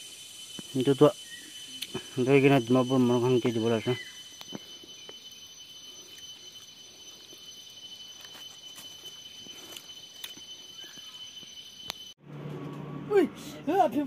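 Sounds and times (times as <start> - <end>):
steady high-pitched tone: 0.0 - 12.2.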